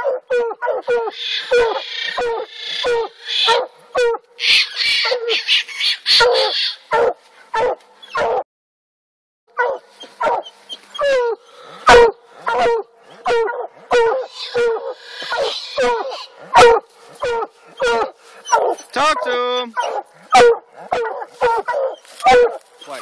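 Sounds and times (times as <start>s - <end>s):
dogs barking: 0.0s - 8.4s, 9.5s - 23.0s.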